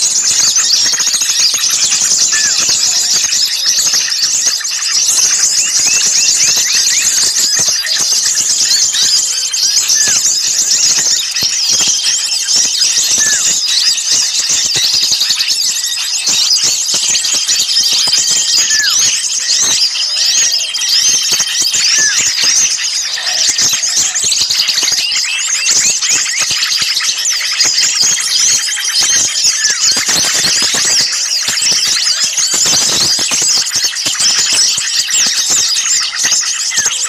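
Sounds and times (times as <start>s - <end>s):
songbirds chirping chorus: 0.0s - 37.0s.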